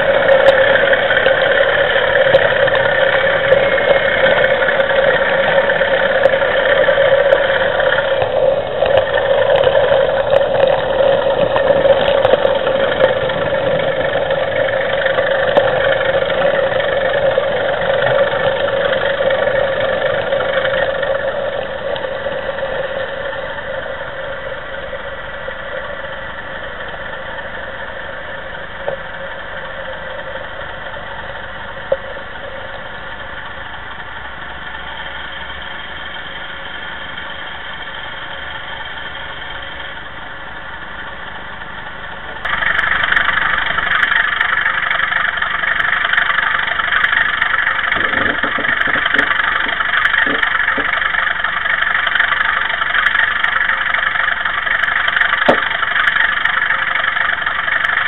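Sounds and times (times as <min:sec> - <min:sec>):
model locomotive diesel engine sound: 0:00.0 - 0:58.0
model train running on track: 0:00.0 - 0:58.0.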